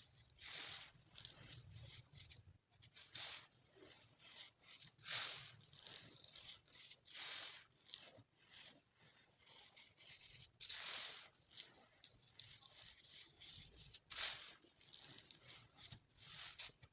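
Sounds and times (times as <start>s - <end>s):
baking soda crunching: 0.0s - 16.9s.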